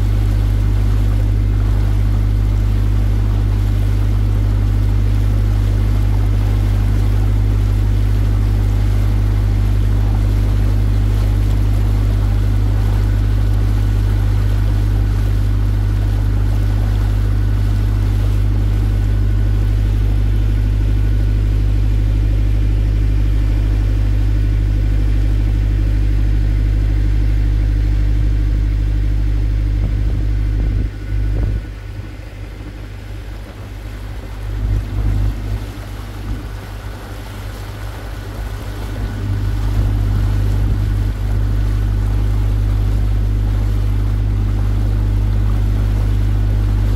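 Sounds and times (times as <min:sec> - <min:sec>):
boat engine drone: 0:00.0 - 0:46.9.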